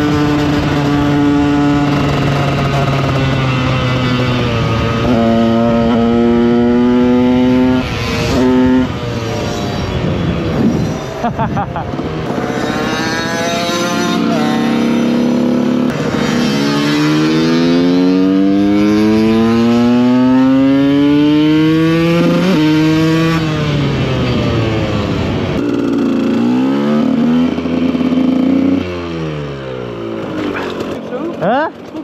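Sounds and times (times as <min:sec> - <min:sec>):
two-stroke motorcycle engine revving: 0:00.0 - 0:32.0.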